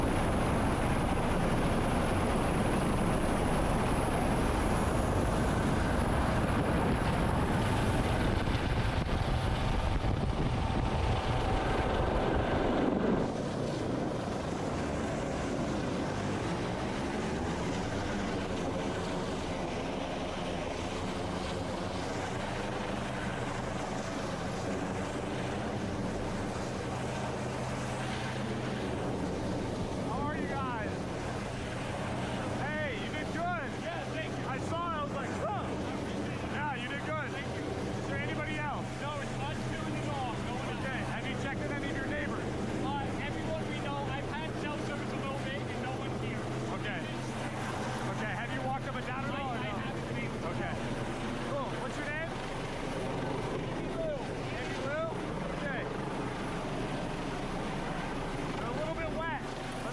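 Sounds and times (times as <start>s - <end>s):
helicopter turbine and rotor noise: 0.0s - 59.9s.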